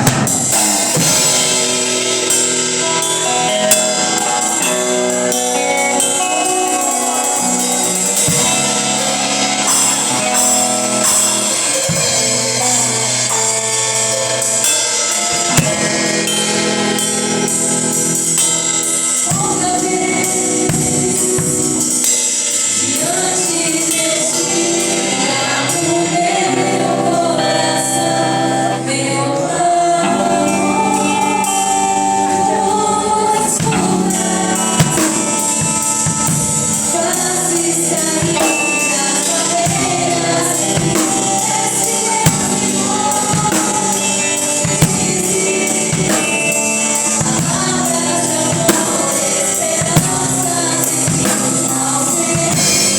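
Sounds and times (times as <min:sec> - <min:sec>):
band with drums and tambourine: 0:00.0 - 0:27.1, 0:30.1 - 0:52.9
group singing gospel: 0:00.0 - 0:52.9.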